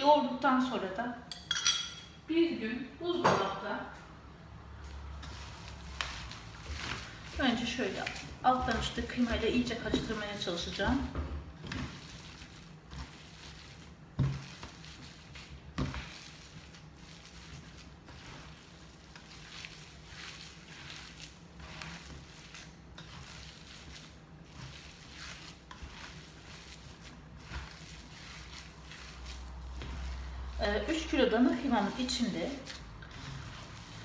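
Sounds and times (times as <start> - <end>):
hands squishing minced meat: 4.8 - 34.0.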